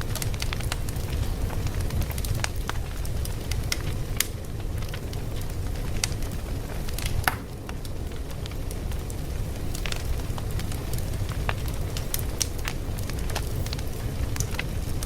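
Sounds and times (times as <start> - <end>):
fire low rumble: 0.0 - 15.0
fire pops and snaps: 0.0 - 15.0.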